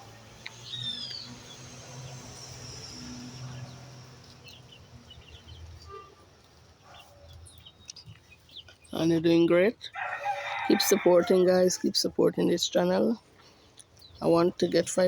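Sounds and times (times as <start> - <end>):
chickens chirping softly: 0.0 - 15.0.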